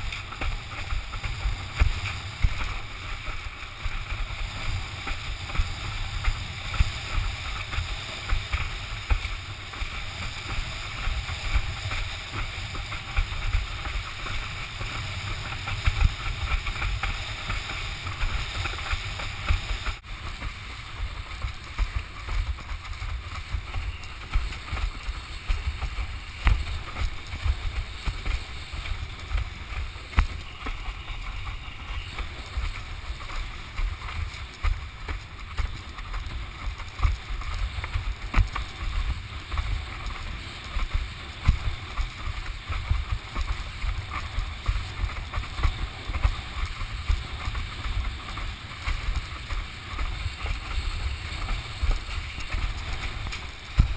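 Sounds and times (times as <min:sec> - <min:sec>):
water rushing past board: 0:00.0 - 0:53.9.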